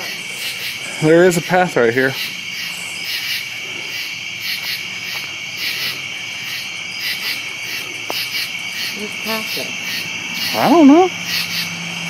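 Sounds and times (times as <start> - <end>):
night insects trilling and chirping: 0.0 - 12.0.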